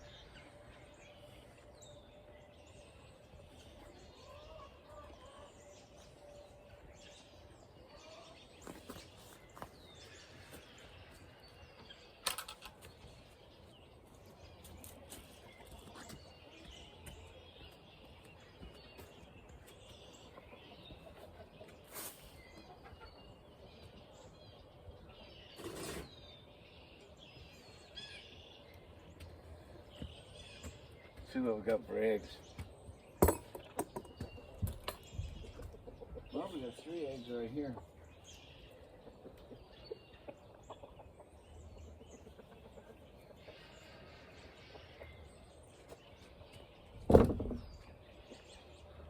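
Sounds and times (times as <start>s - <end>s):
faint bird chirps and calls: 0.0s - 49.0s.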